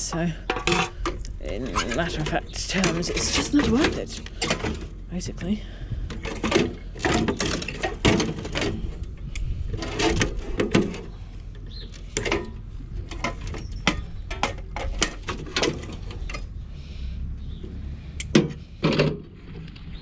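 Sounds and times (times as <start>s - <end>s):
metal scrap clanking: 0.0s - 16.5s.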